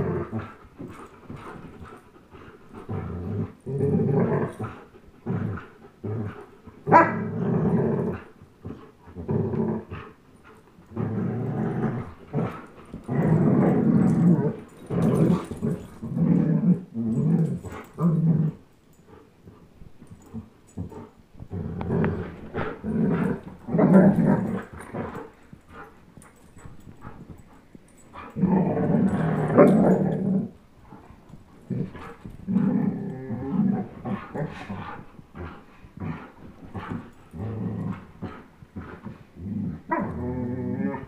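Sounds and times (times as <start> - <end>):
dog play-growling: 0.0 - 41.0.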